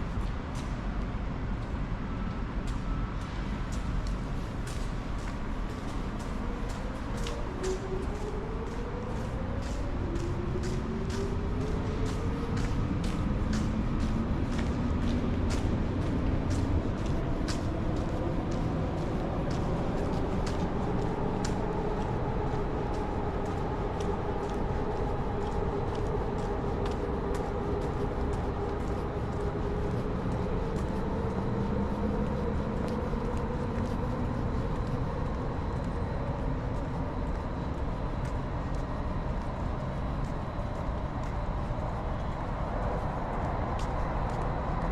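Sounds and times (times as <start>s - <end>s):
footsteps clicking on pavement: 0.0s - 44.9s.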